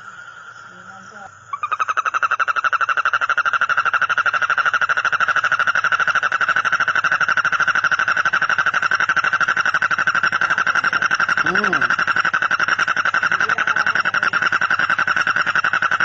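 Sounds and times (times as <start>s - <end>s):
frog trilling: 0.0s - 16.0s.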